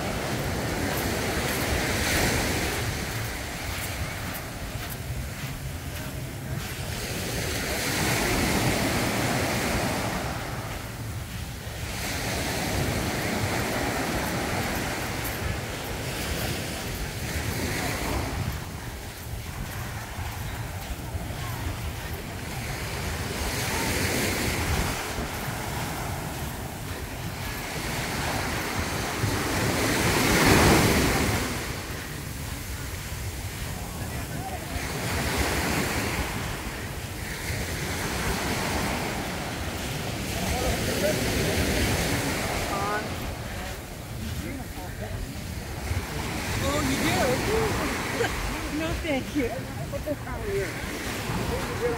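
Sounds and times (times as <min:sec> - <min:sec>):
ocean waves breaking on beach: 0:00.0 - 0:51.9
wind buffeting microphone: 0:00.0 - 0:51.9.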